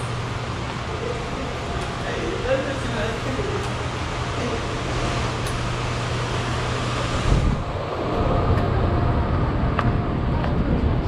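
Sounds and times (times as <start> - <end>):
ventilation air rushing and humming: 0.0 - 11.0.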